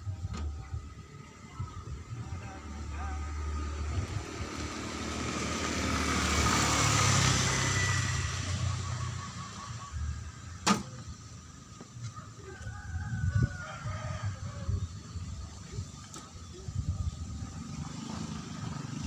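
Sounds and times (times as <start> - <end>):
vehicle passing by: 0.7 - 11.6, 13.0 - 19.0.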